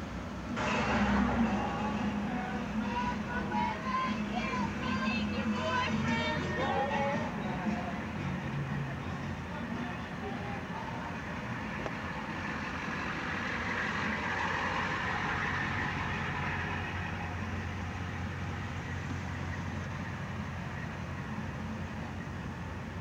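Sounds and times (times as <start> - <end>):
car engine idling: 0.0 - 23.0
road hiss: 0.0 - 23.0.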